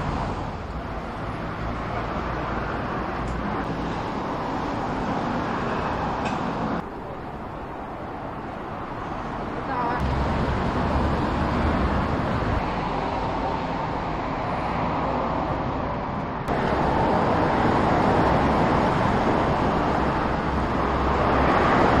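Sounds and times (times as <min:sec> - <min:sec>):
hum of passing cars: 0:00.0 - 0:22.0.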